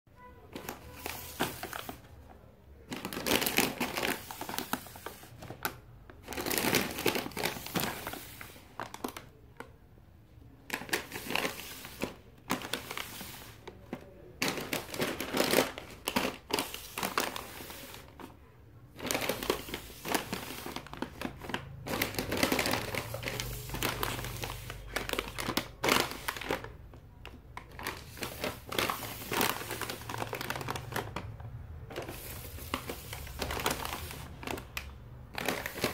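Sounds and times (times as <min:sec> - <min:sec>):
plastic snack bags crinkling: 0:00.2 - 0:09.8, 0:10.4 - 0:35.9.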